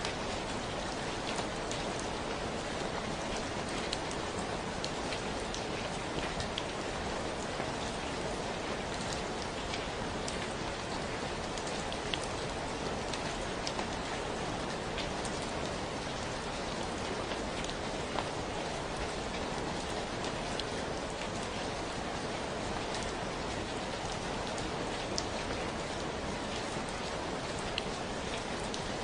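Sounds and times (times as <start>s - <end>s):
raindrops ticking on surfaces: 0.0s - 29.0s
steady rain hiss: 0.0s - 29.0s.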